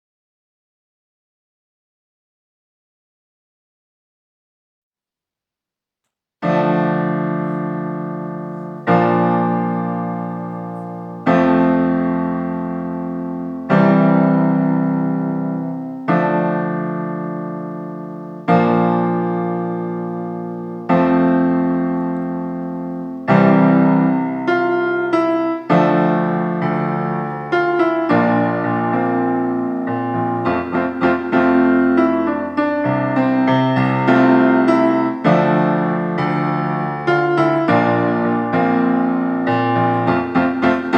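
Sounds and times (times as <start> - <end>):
solo piano: 6.4 - 40.9.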